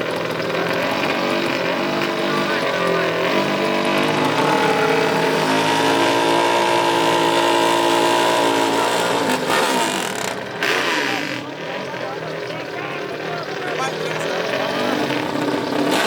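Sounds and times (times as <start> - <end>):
racing engine revving: 0.0 - 16.0.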